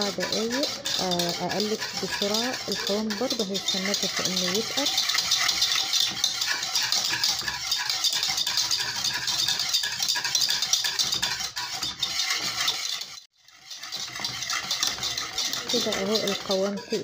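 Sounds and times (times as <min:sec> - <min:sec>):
whisk scraping metal pot: 0:00.0 - 0:17.0.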